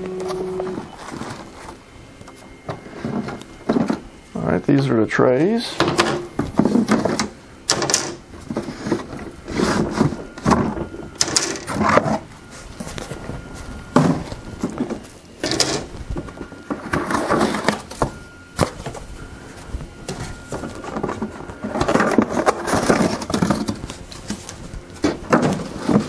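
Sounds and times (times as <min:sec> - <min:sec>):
cardboard packing rustling: 0:00.0 - 0:04.0, 0:08.3 - 0:26.0.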